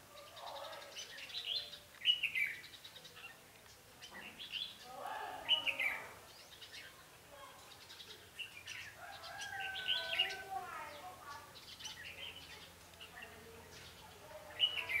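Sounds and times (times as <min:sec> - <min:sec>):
bulbuls singing whistled phrases: 0:00.0 - 0:15.0
bird chirps: 0:00.2 - 0:07.0, 0:07.6 - 0:15.0.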